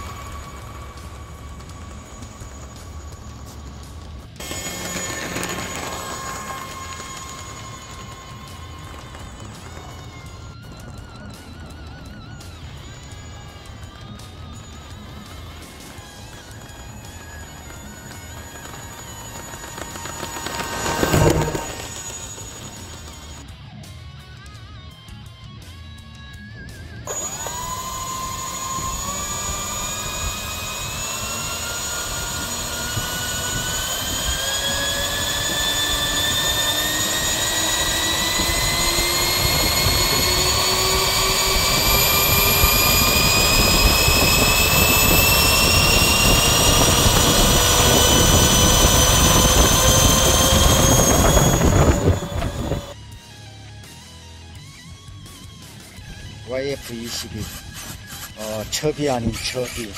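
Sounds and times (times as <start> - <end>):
electric ducted fans whining: 0.0 - 23.6, 27.0 - 53.2.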